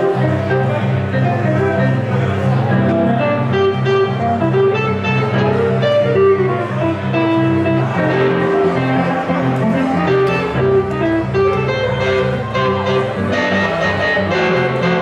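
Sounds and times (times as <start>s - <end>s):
bass line: 0.0s - 15.0s
electric guitar: 0.0s - 15.0s
keyboard: 0.0s - 15.0s.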